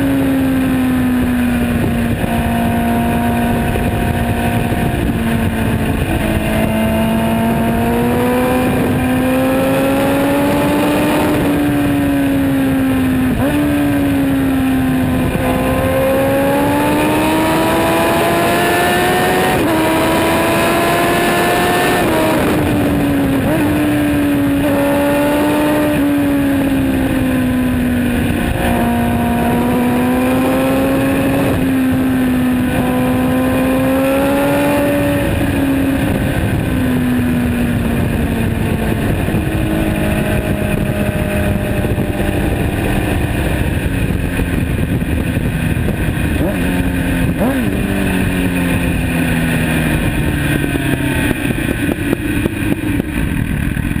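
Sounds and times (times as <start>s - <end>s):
motorcycle exhaust note: 0.0s - 54.0s
wind and road noise: 0.0s - 54.0s.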